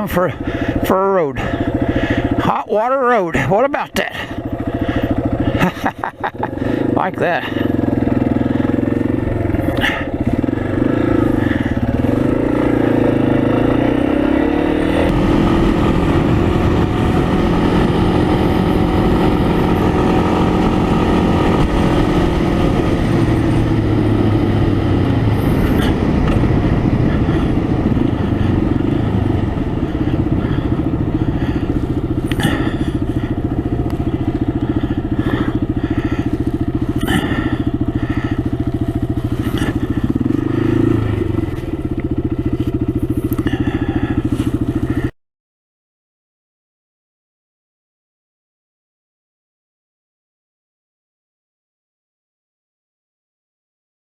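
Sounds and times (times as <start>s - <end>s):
vehicle engine running: 0.0s - 45.2s.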